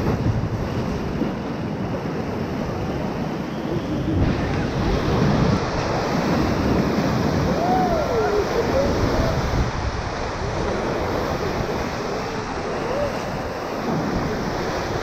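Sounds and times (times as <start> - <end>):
whitewater rapids rushing: 2.6 - 15.0.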